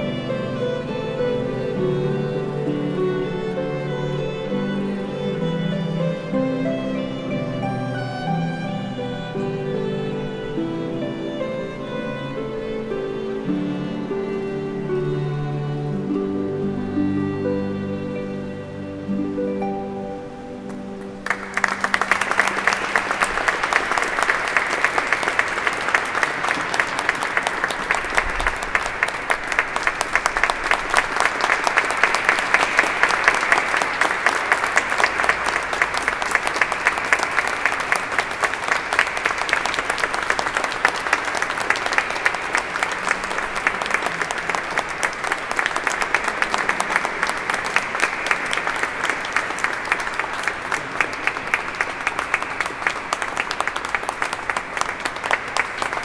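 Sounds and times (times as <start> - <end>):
audience applauding: 0.0 - 13.5, 20.6 - 56.0
chamber music: 0.0 - 56.0.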